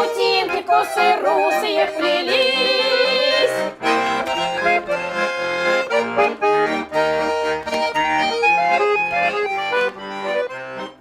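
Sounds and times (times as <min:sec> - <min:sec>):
button accordion folk melody: 0:00.0 - 0:11.0.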